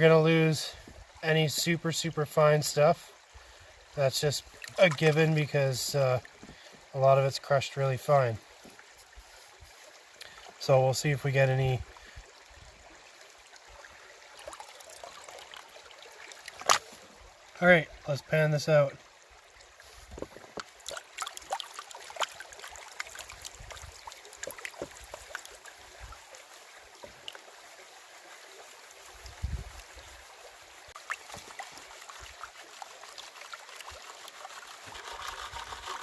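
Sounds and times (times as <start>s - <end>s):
running creek: 0.0s - 36.0s.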